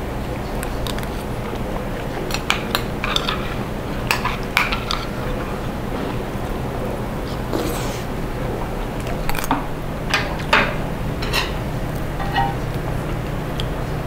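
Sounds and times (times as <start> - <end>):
utensils clinking against dishes: 0.5 - 11.6, 12.2 - 12.8.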